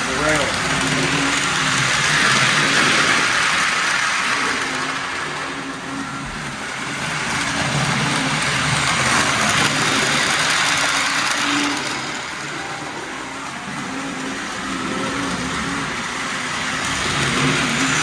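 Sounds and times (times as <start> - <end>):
model train motor whir: 0.0 - 18.0
wheels rolling on rail: 0.0 - 18.0.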